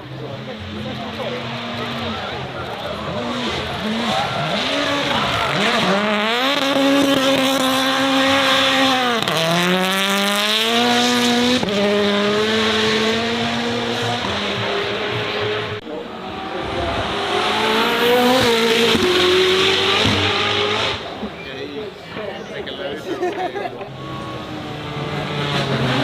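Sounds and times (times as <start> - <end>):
racing car engine revving: 0.1 - 21.4, 23.8 - 26.0.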